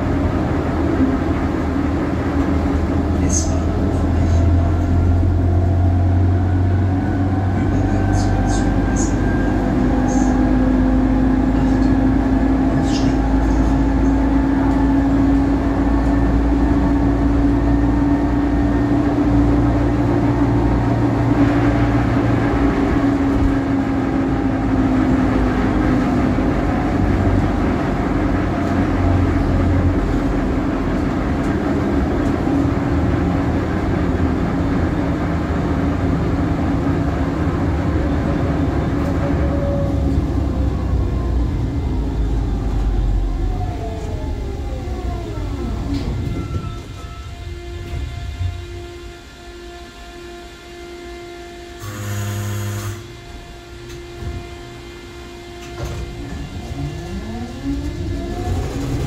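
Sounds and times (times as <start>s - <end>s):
tram rumbling: 0.0s - 59.0s
tram whine: 0.0s - 59.0s.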